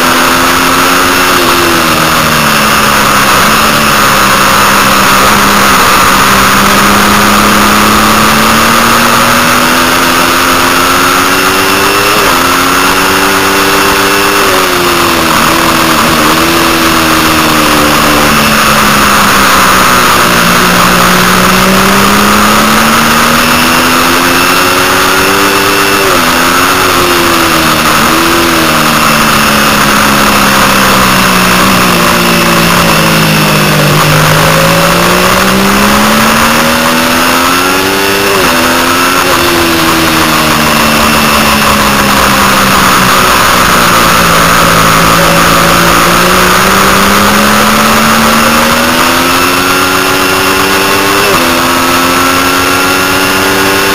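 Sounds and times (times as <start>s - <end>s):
motorcycle engine revving: 0.0s - 53.9s
quick gear changes: 0.0s - 53.9s.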